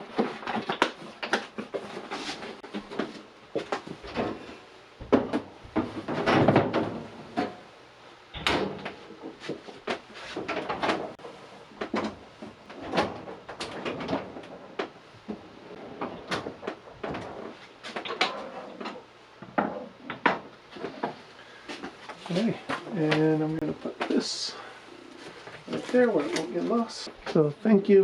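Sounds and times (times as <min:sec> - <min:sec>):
objects knocking and clunking: 0:00.0 - 0:07.7, 0:08.4 - 0:24.2.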